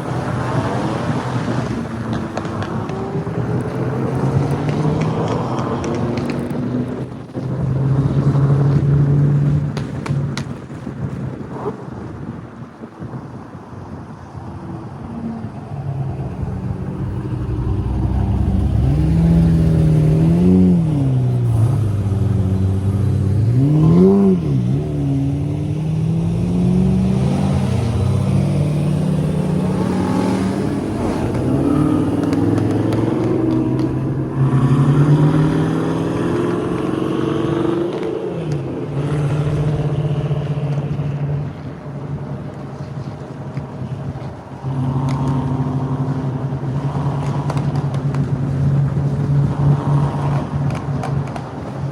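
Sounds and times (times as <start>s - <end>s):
sports car engines revving: 0.0s - 51.9s.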